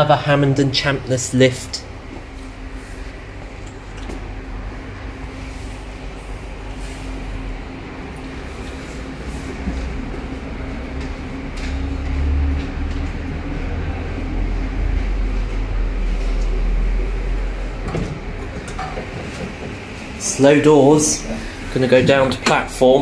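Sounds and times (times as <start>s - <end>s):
low machine rumble: 0.0s - 23.0s.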